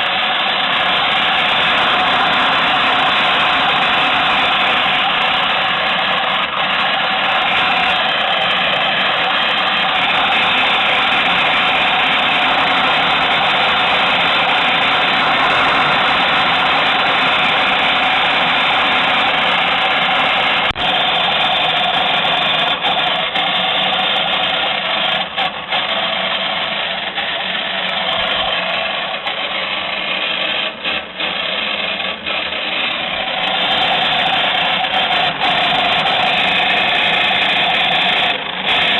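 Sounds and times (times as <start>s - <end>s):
small electric motor running: 0.0s - 38.9s.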